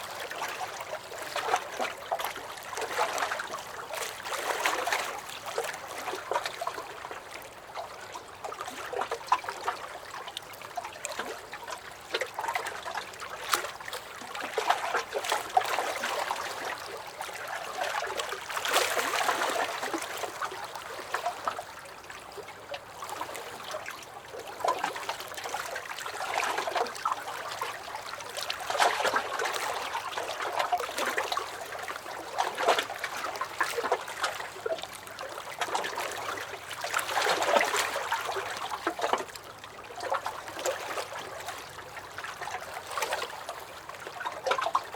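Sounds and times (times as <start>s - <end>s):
waves lapping against a dock: 0.0s - 44.9s.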